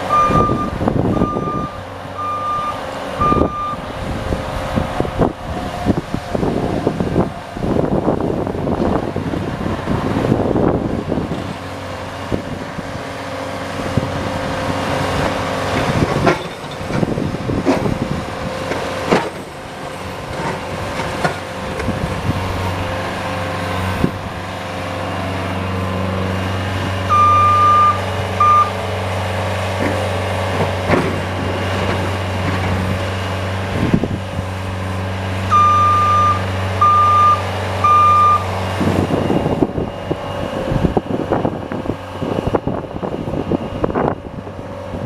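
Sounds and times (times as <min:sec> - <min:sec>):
snowplow engine running: 0:00.0 - 0:45.0.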